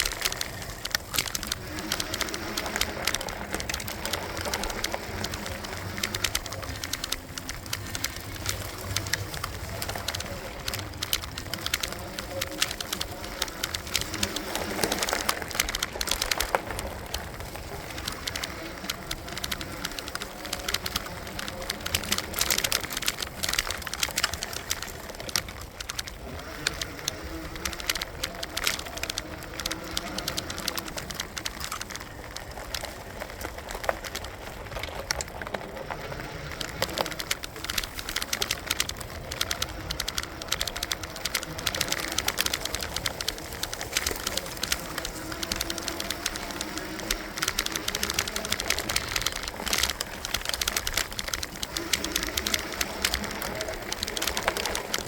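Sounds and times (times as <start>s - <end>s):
electric bike running: 0.0s - 55.0s.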